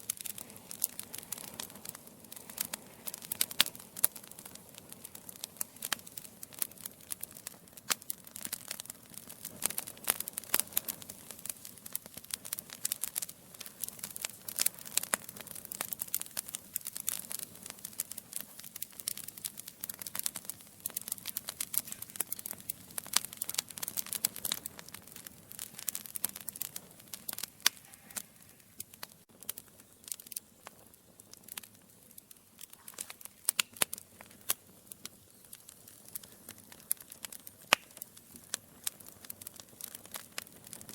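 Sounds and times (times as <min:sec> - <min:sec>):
logs crackling and popping: 0:00.0 - 0:40.9
soft hiss of flame: 0:00.0 - 0:40.9.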